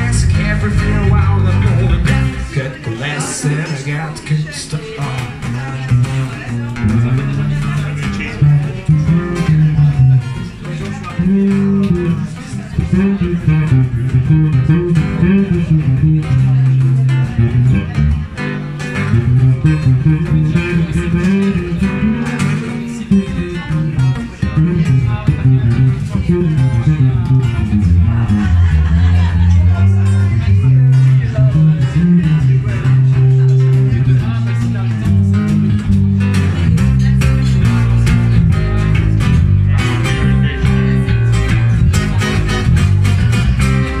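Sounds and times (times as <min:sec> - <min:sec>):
low bass notes: 0:00.0 - 0:03.8, 0:05.1 - 0:44.0
acoustic and electric guitars: 0:00.0 - 0:44.0.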